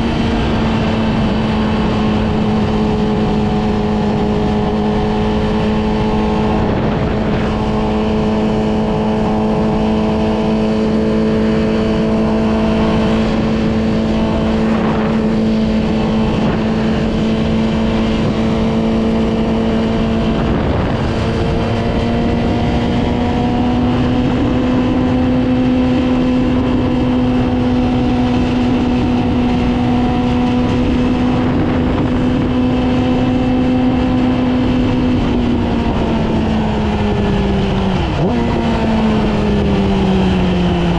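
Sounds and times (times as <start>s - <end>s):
motorcycle engine at steady revs: 0.0s - 40.9s
rushing wind noise: 0.0s - 40.9s.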